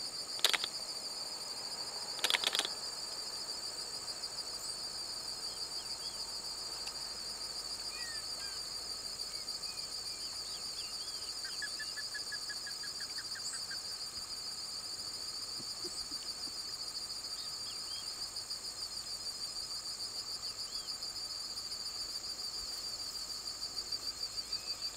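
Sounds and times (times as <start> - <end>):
insect chorus trilling: 0.0 - 24.9.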